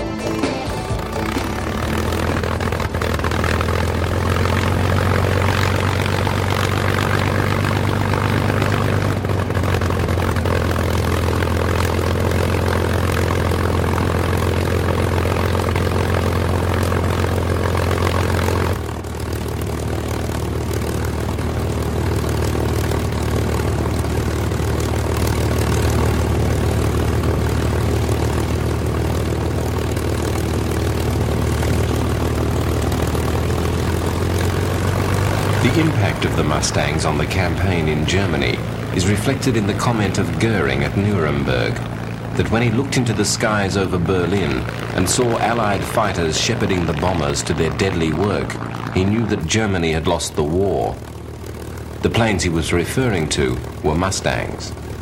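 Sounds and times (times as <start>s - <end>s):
piston aircraft engine drone: 0.0s - 55.0s.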